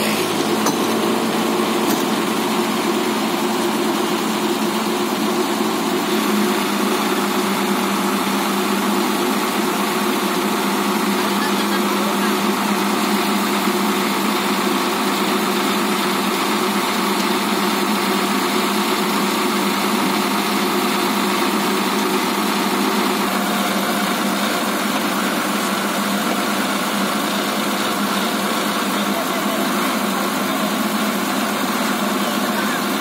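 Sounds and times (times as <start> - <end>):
diesel engine humming: 0.0 - 33.0.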